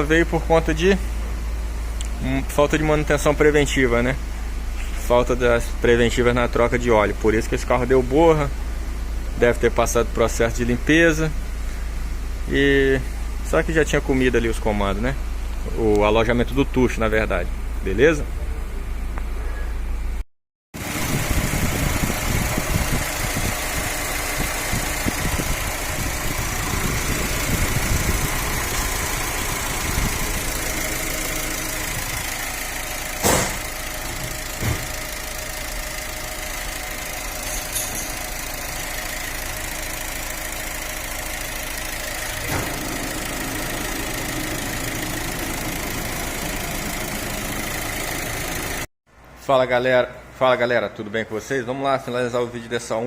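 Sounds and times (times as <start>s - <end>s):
car engine idling: 0.0s - 20.1s, 20.8s - 48.9s.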